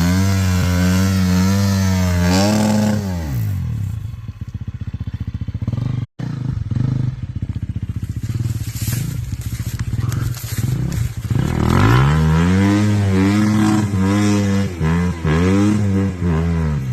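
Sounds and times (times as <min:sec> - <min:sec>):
dirt bike engine revving: 0:00.0 - 0:16.9.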